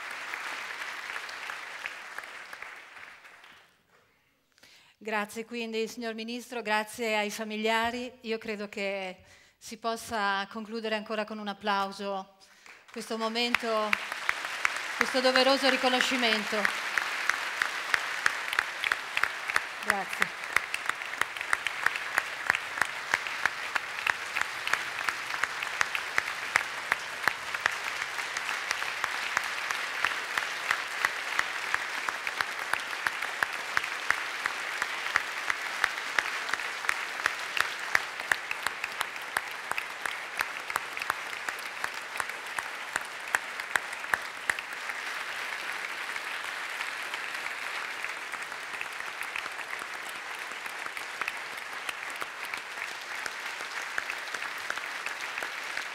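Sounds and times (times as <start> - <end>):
audience applauding: 0.0 - 3.8, 12.6 - 55.9.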